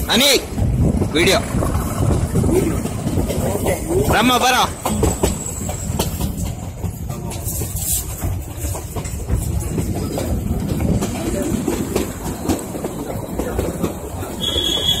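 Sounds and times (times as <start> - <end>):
train coach rumble: 0.0 - 15.0
wheel clicks over rail joints: 0.5 - 15.0.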